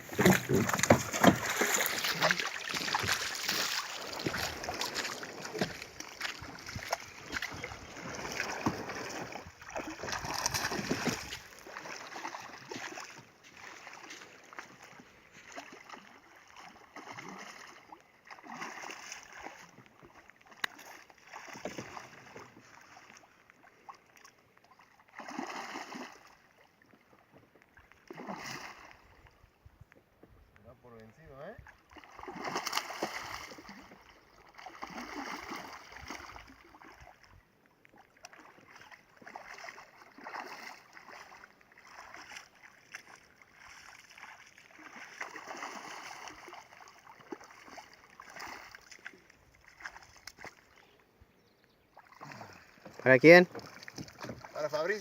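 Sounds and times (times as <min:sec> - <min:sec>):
water splashing around boat: 0:00.0 - 0:29.4, 0:31.1 - 0:51.0, 0:51.9 - 0:55.0.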